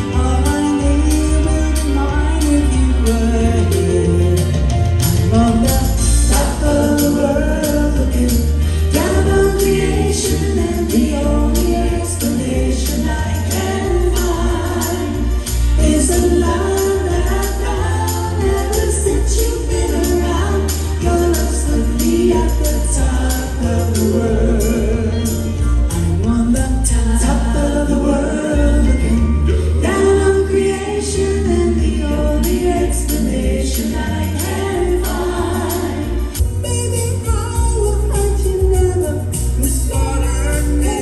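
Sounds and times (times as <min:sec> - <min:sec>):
backing track with heavy bass: 0:00.0 - 0:41.0
vocal group singing pop song: 0:00.0 - 0:41.0.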